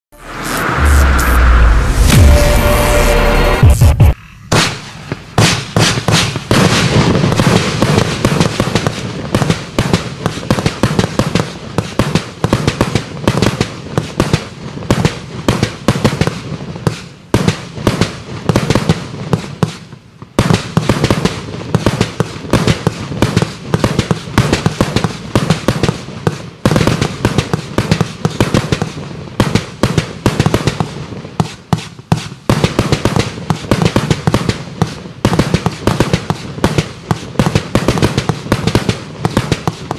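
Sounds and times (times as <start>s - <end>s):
fireworks cake firing shots: 4.5s - 39.9s.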